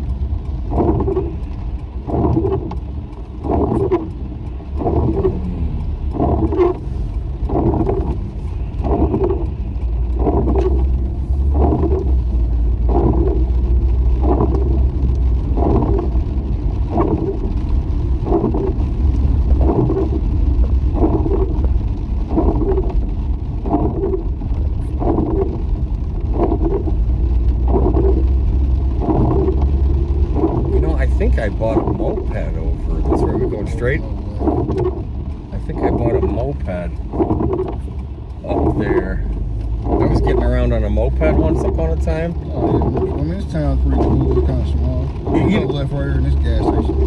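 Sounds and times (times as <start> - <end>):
car engine and road rumble: 0.0 - 47.0
rain on car: 0.0 - 47.0
windshield wipers sweeping: 0.0 - 47.0.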